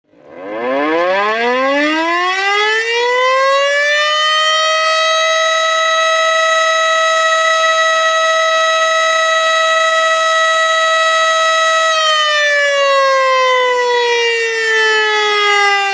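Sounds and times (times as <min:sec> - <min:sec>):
warning siren winding up: 0:00.1 - 0:15.9.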